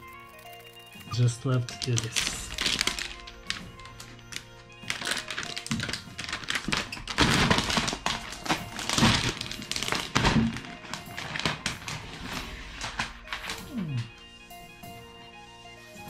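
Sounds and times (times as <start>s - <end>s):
plastic film peeling and crinkling: 0.0s - 14.2s
background music: 0.0s - 16.0s.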